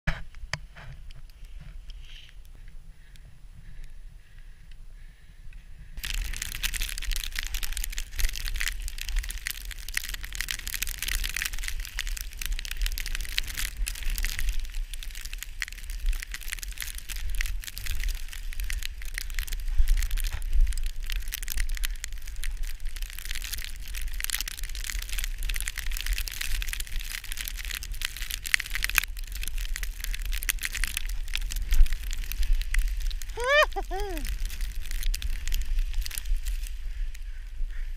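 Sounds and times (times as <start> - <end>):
wind rumble on microphone: 0.1 - 37.9.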